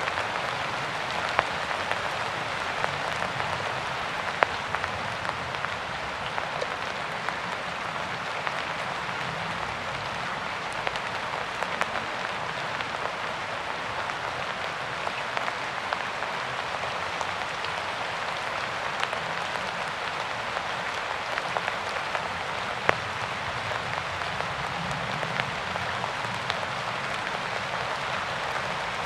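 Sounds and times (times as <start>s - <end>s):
raindrops ticking: 0.0s - 29.0s
steady rain falling: 0.0s - 29.0s.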